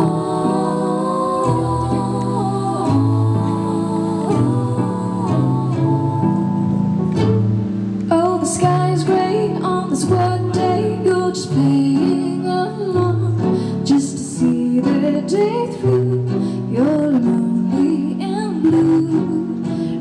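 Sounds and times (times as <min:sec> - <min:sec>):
woman singing into microphone: 0:00.0 - 0:06.9, 0:08.0 - 0:20.0
instrumental backing music: 0:00.0 - 0:20.0.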